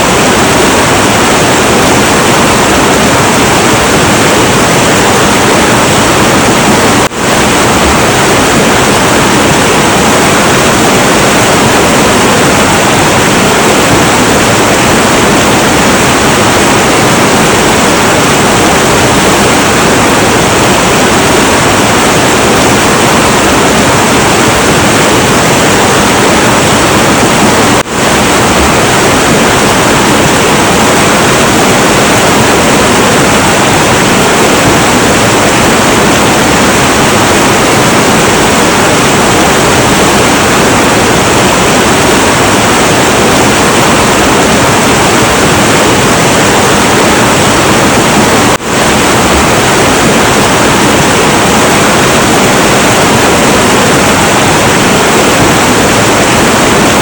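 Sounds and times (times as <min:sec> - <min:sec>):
river water roaring: 0:00.0 - 0:57.0.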